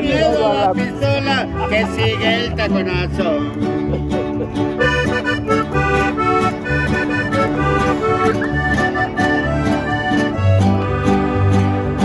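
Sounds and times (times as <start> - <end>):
button accordion melody: 0.0 - 12.0
guitar and bass two-beat pulse: 0.0 - 12.0.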